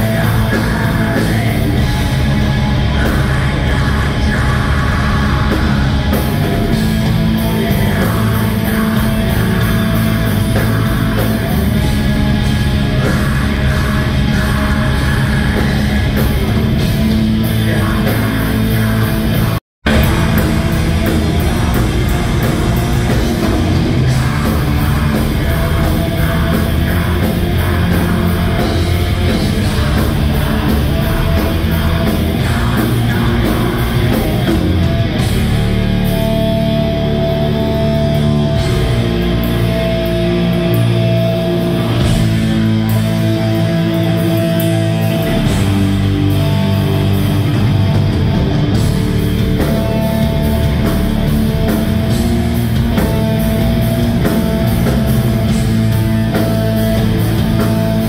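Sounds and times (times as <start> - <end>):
person singing: 0.0 - 16.8, 17.4 - 47.9
heavy metal band playing: 0.0 - 58.0
melodic guitar lead line: 0.0 - 58.0.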